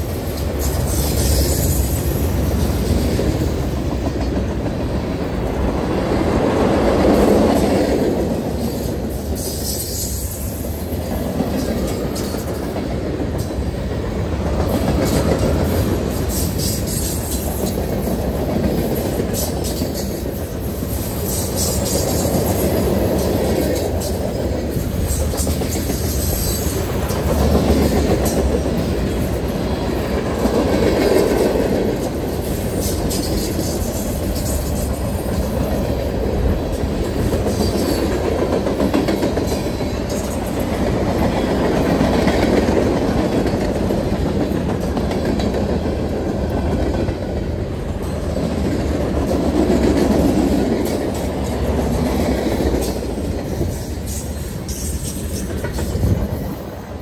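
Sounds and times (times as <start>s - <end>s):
wheels clicking over rail joints: 0.0s - 56.8s
steel wheels rumbling on rails: 0.0s - 57.0s.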